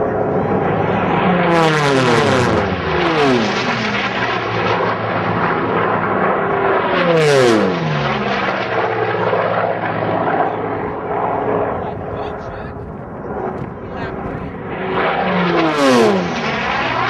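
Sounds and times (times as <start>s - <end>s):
piston-engine planes flying past: 0.0s - 17.0s.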